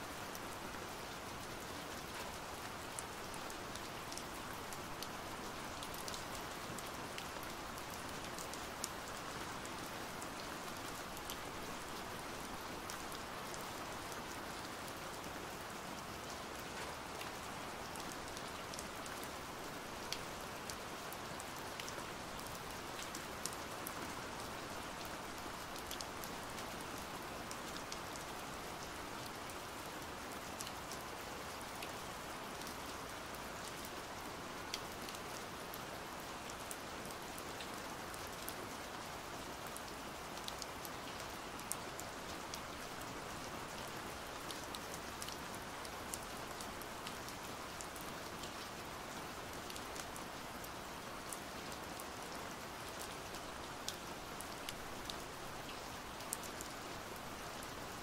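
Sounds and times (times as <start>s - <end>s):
pouring rain: 0.0s - 58.0s.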